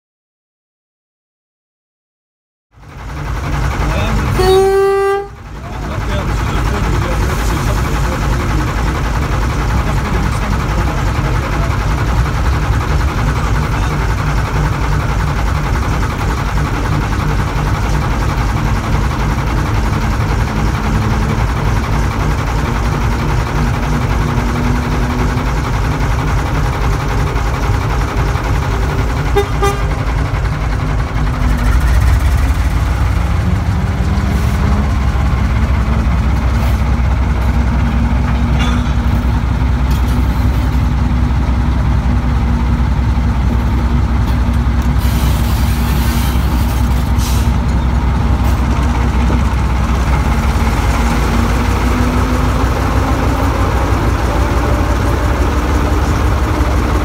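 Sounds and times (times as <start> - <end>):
diesel locomotive engine pulsing: 2.7 - 57.0.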